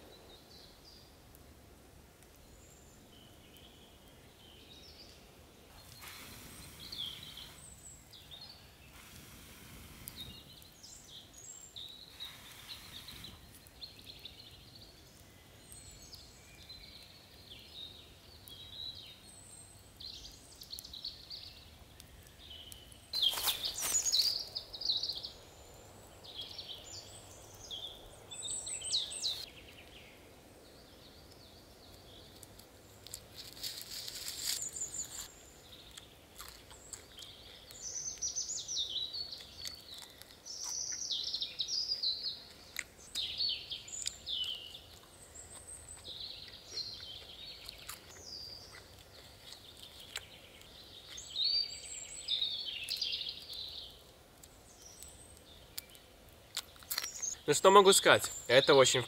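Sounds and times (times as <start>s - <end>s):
small birds chirping: 2.2s - 59.0s.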